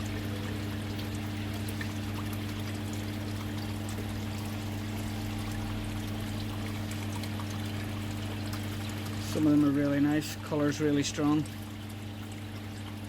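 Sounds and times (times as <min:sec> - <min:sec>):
steady low hum: 0:00.0 - 0:13.0
water pouring into pond: 0:00.0 - 0:13.0.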